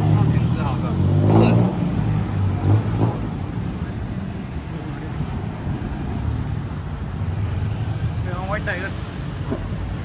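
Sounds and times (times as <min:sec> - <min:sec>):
steady road noise: 0:00.0 - 0:10.0.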